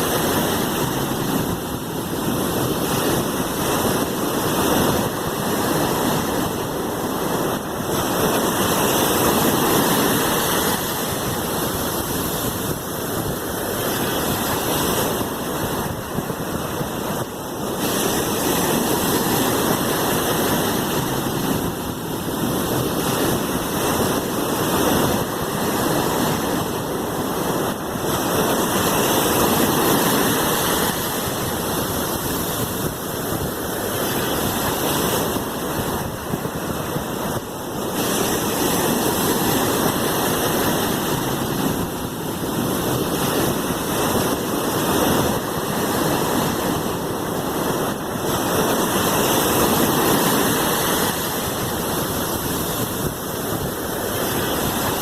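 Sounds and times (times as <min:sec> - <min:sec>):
sea waves washing in: 0:00.0 - 0:55.0.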